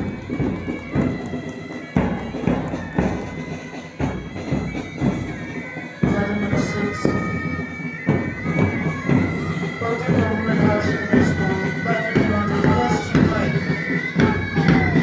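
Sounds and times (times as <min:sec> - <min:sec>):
band playing march music: 0:00.0 - 0:15.0
drum beat: 0:00.0 - 0:15.0.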